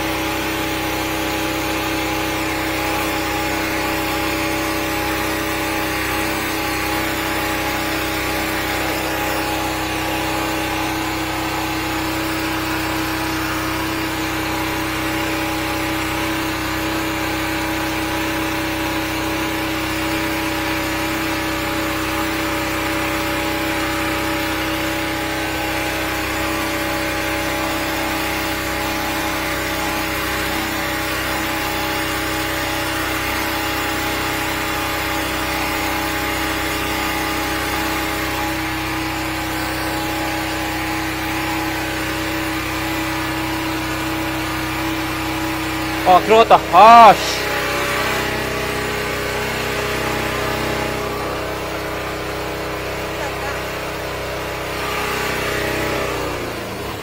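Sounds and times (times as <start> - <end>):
sewer jetter engine running: 0.0 - 57.0.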